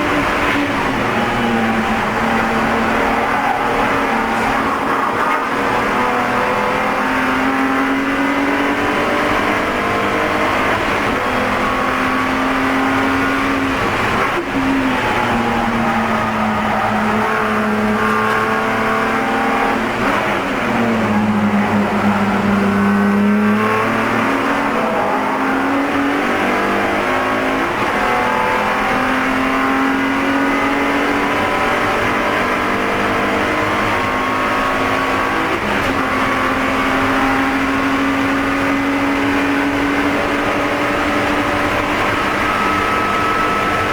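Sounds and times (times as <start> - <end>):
race car engine accelerating: 0.0 - 43.9.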